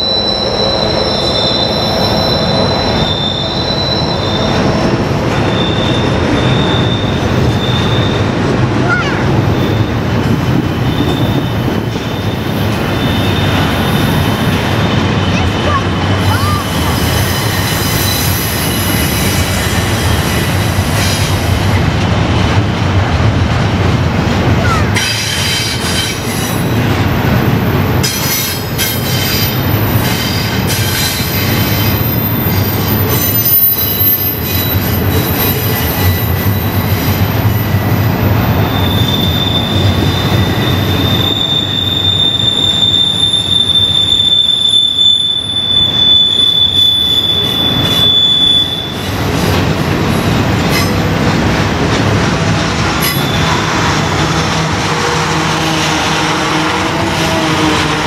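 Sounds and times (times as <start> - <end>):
wheels squealing against rails: 0.0 - 22.9, 24.5 - 51.3, 52.0 - 58.0
train rumbling past: 0.0 - 58.0.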